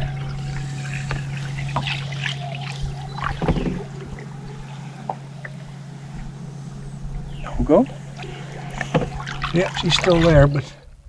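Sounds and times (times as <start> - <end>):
steady low boat hum: 0.0 - 11.0.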